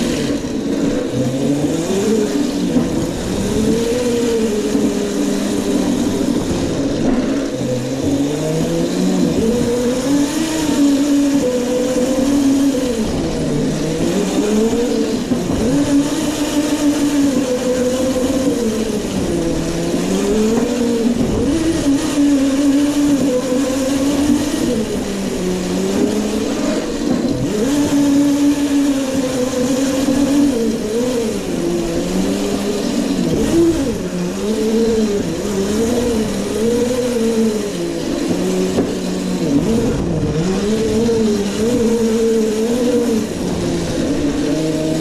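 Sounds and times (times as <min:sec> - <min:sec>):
electric motor whining: 0:00.0 - 0:45.0.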